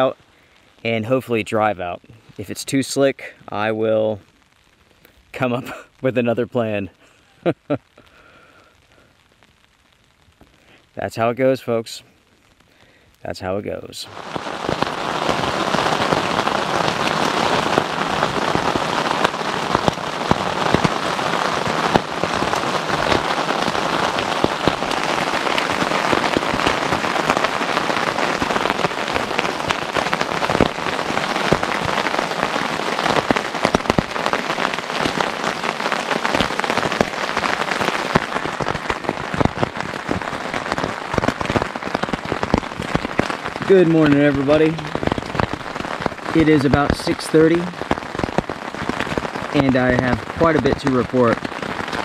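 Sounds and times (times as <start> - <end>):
freezing rain on tent fabric: 0.0 - 52.0.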